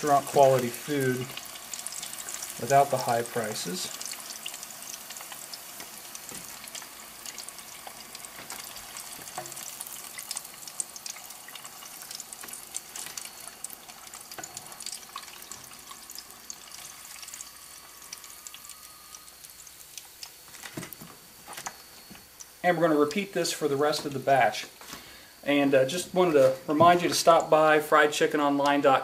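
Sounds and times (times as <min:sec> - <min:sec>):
chicken frying in hot oil: 0:00.0 - 0:24.6, 0:25.4 - 0:29.0.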